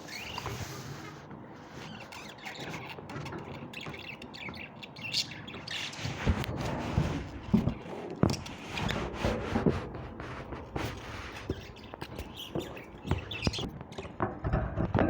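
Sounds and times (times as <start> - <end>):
birds squawking and chirping: 0.0 - 9.4, 10.8 - 14.9.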